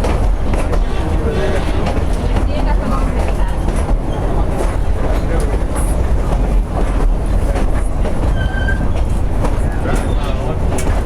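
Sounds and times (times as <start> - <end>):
steam train rumble: 0.0 - 11.0
wheels clattering over track: 0.0 - 11.0.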